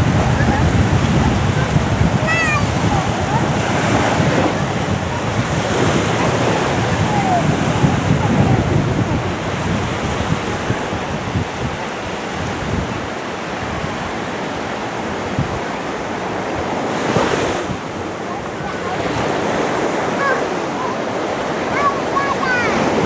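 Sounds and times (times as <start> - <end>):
waves washing onto beach: 0.0 - 23.0
wind on microphone: 0.0 - 23.0.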